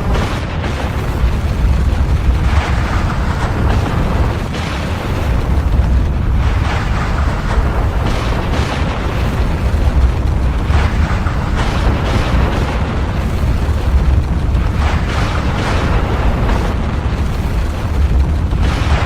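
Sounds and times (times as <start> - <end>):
volcanic eruption rumble: 0.0 - 19.0.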